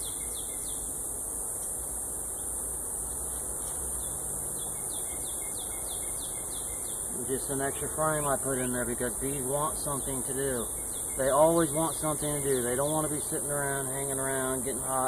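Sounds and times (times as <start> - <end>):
high-pitched insect chorus: 0.0 - 15.0
honeybees humming: 0.0 - 15.0.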